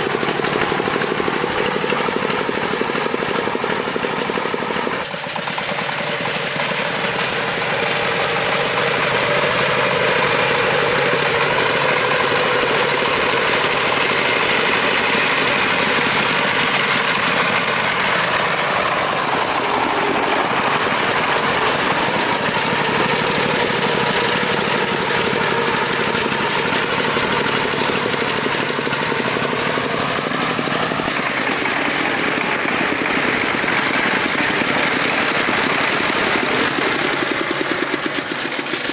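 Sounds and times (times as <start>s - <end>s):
truck engine knocking chug: 0.0s - 38.9s.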